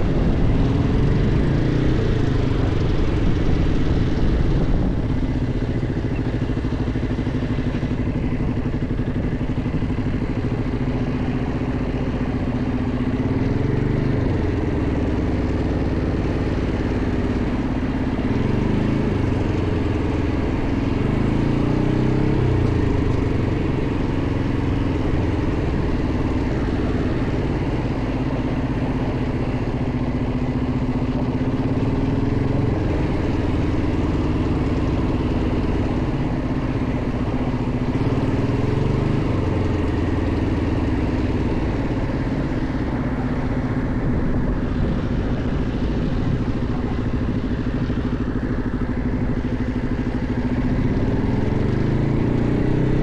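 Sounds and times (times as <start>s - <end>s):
quad bike engine running: 0.0s - 53.0s.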